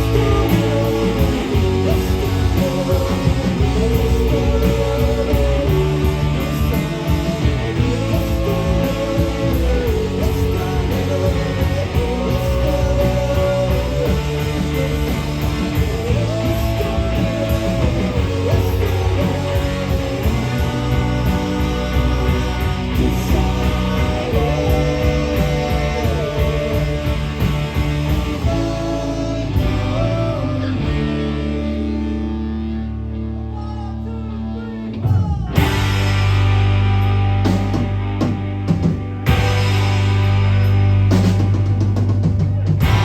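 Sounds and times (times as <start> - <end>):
guitar melody with long notes: 0.0 - 43.0
rock band playing: 0.0 - 43.0.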